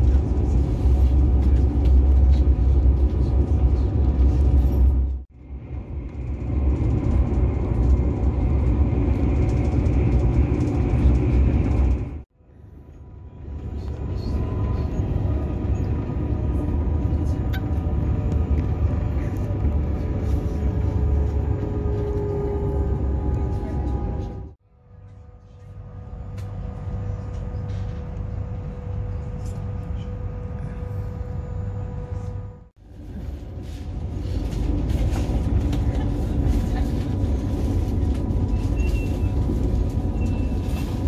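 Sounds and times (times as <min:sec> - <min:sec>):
passenger train rumbling: 0:00.0 - 0:41.0.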